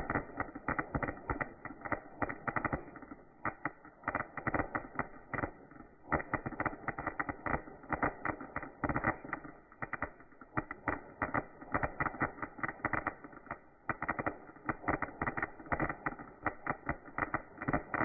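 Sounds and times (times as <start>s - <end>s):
fireworks popping and banging: 0.0s - 18.0s.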